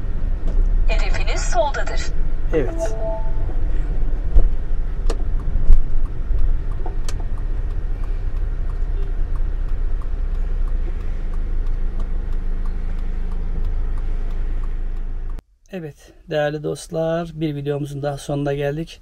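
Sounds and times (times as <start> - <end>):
car engine and road rumble: 0.0 - 15.6.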